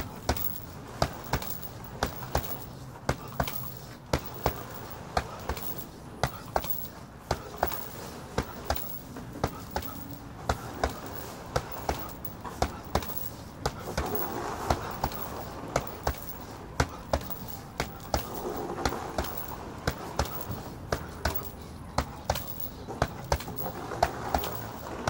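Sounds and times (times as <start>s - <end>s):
gloves punching heavy bag: 0.0s - 25.0s.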